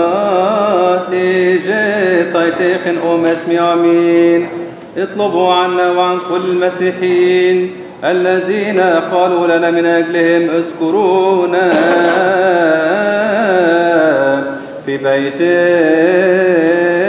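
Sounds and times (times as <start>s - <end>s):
person chanting slow melody: 0.0s - 17.0s.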